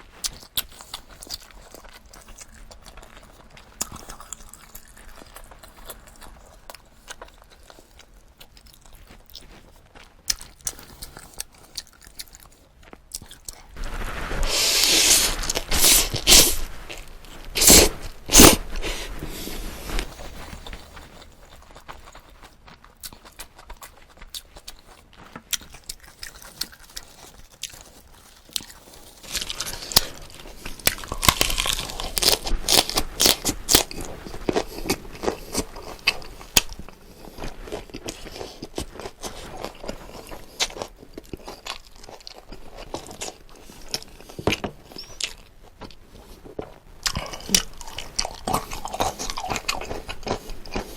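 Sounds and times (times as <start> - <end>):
close chewing and biting: 0.0 - 50.9.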